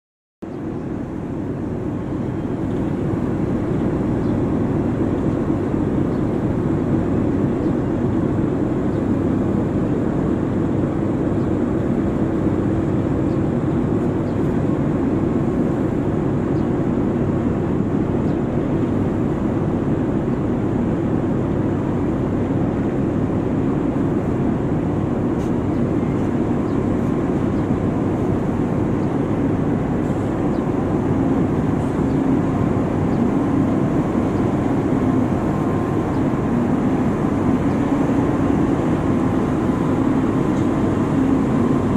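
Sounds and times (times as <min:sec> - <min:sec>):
engine drone: 0:00.4 - 0:41.9
wind: 0:00.4 - 0:41.9.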